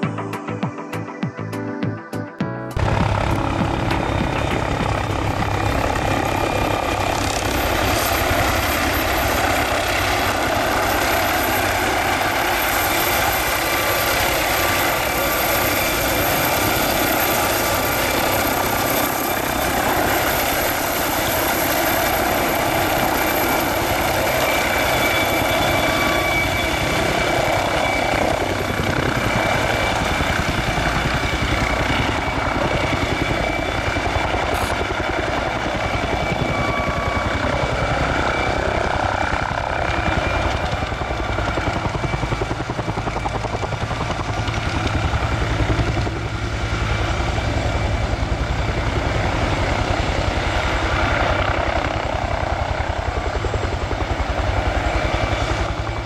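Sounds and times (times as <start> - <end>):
helicopter turbine whine: 0.0 - 56.0
helicopter rotor beating: 2.7 - 56.0.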